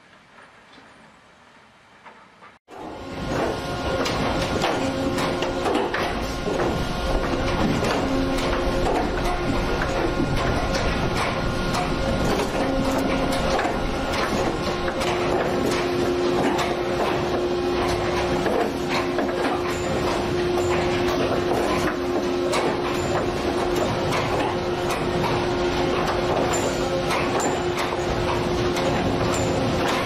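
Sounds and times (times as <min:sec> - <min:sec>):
machine hum: 0:02.7 - 0:30.0.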